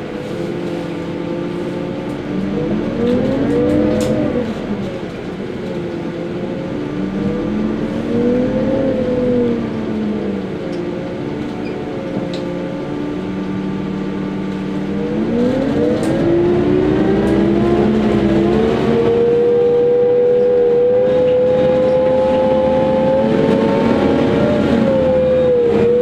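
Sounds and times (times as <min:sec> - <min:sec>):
bus engine hum: 0:00.0 - 0:26.0.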